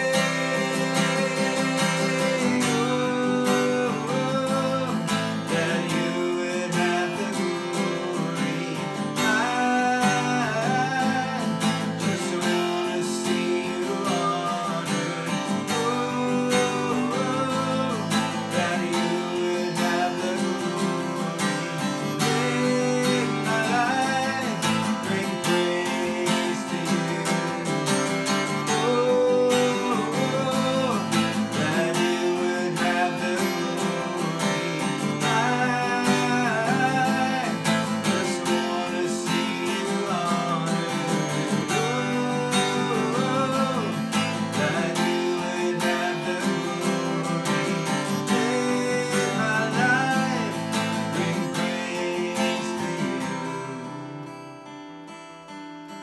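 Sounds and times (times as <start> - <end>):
man singing softly: 0.0 - 54.3
acoustic guitar strumming: 0.0 - 56.0.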